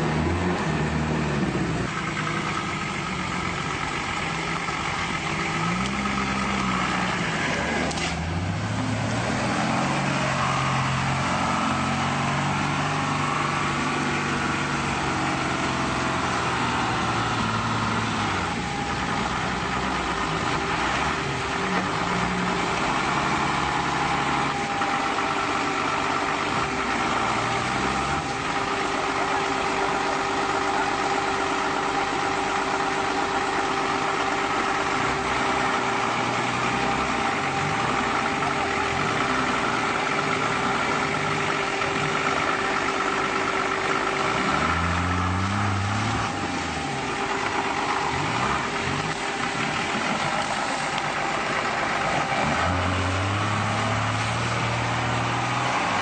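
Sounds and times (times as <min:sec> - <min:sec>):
engine running hard: 0:00.0 - 0:56.0
wheels churning in mud: 0:00.0 - 0:56.0.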